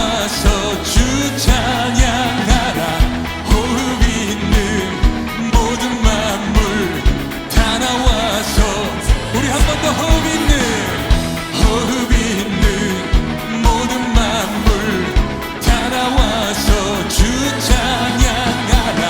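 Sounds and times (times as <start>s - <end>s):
worship band music with singing: 0.0s - 19.0s.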